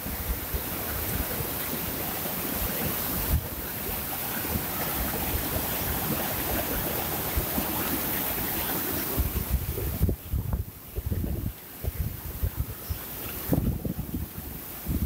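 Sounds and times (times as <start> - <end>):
river rushing over boulders: 0.0 - 15.0
wind buffeting microphone: 0.0 - 15.0.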